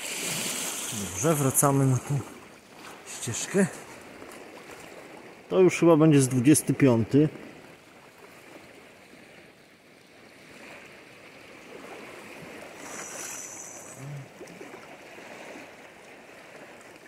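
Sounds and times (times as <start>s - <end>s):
sea waves washing up beach: 0.0s - 17.0s.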